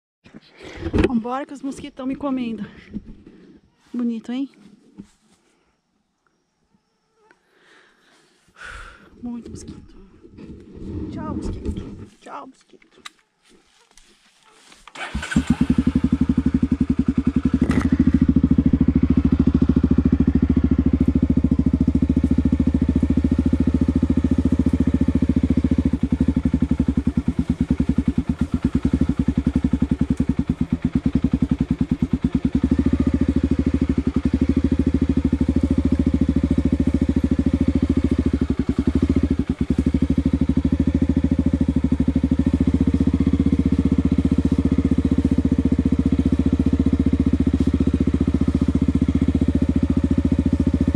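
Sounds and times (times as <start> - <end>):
motorcycle engine at low revs: 0.6 - 3.6, 9.2 - 12.2, 13.9 - 50.9.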